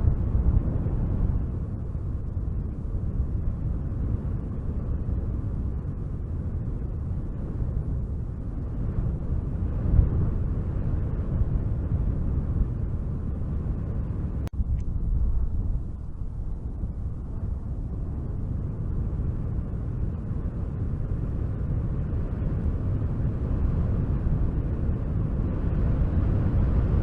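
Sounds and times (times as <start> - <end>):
wind blowing in low rumble: 0.0 - 27.0.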